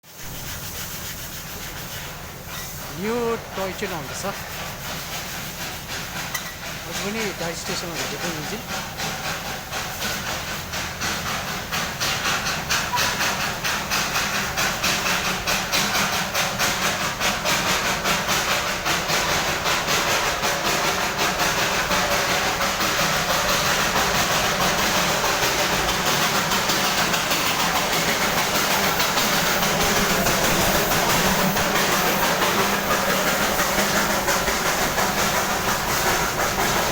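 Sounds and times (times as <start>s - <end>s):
steam hiss: 0.0s - 36.9s
steam locomotive chuffing: 0.0s - 36.9s.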